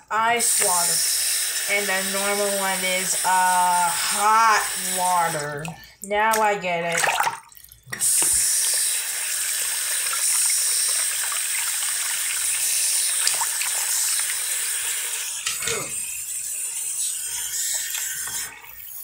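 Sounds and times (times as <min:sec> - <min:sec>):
faucet water splashing: 0:00.1 - 0:19.0.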